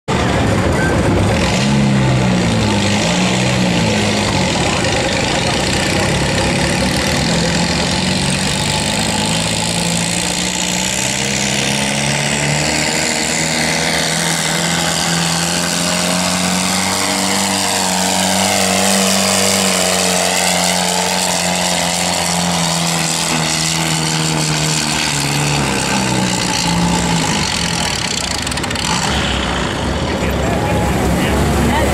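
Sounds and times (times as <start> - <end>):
tractor engine under load: 0.1 - 31.9.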